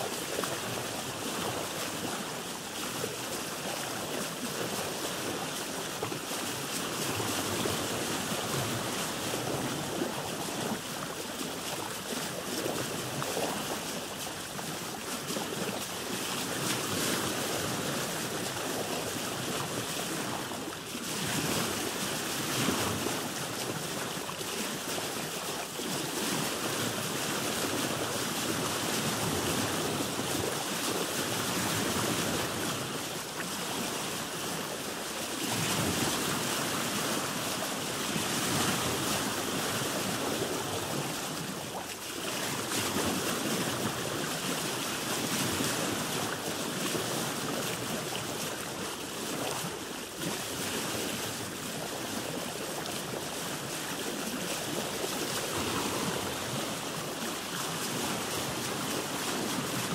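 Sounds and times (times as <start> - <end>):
sea water rushing: 0.0 - 59.9.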